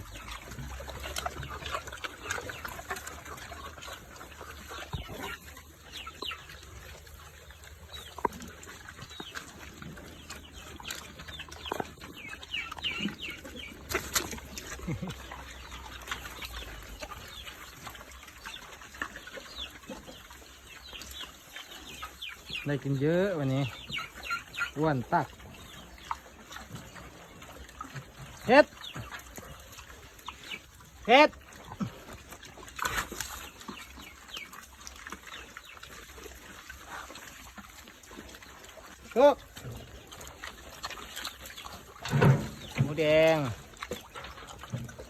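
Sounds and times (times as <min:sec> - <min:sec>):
chickens clucking and peeping: 0:00.0 - 0:45.0.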